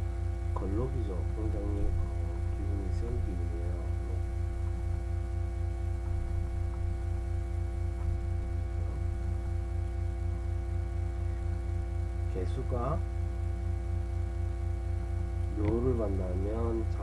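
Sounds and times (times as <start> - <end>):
electrical mains hum and buzz: 0.0 - 17.0.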